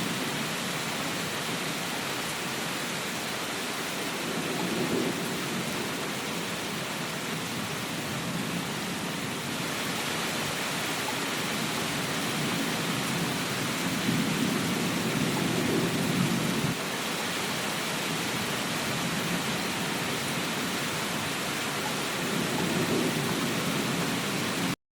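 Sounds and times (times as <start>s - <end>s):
rain hiss: 0.0s - 24.8s.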